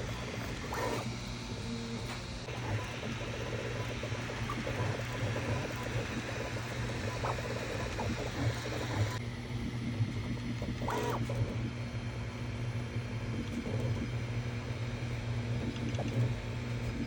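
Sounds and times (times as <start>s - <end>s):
printer motors and fans whirring: 0.0s - 17.0s.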